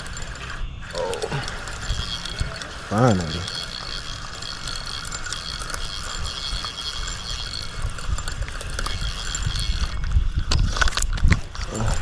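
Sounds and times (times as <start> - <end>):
fishing reel ratcheting: 0.0 - 12.0.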